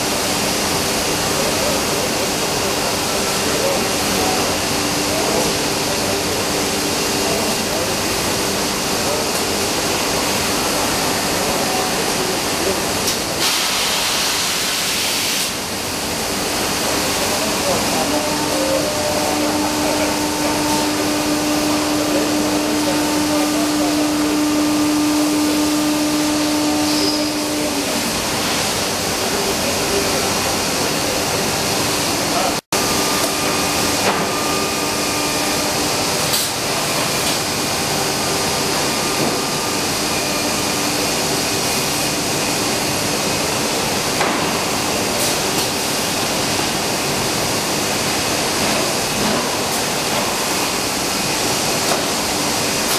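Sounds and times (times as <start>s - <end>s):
steady machine hum: 0.0s - 52.9s.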